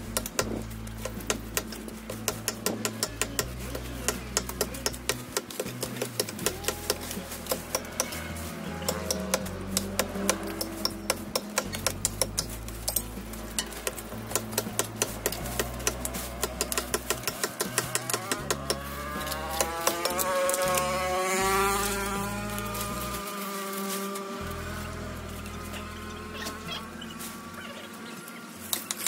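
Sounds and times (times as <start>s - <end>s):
steady low notes: 0.0s - 28.6s
hoes scraping dry leaves and soil: 0.0s - 29.0s.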